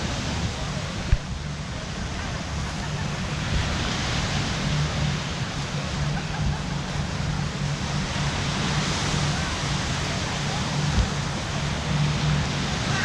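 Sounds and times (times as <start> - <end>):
even wash of noise: 0.0 - 13.0
faint voices: 0.0 - 13.0
low hum: 0.0 - 13.0.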